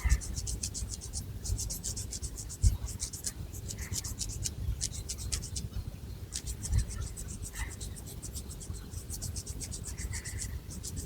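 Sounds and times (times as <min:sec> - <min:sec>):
fingernails scratching scalp through hair: 0:00.0 - 0:05.7, 0:06.3 - 0:11.0.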